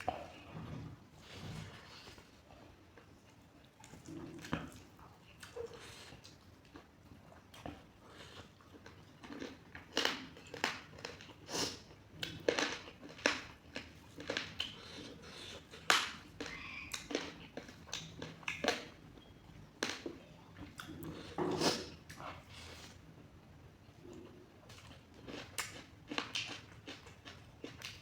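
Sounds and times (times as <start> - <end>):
person chewing and crunching food: 0.0 - 22.9, 23.9 - 28.0.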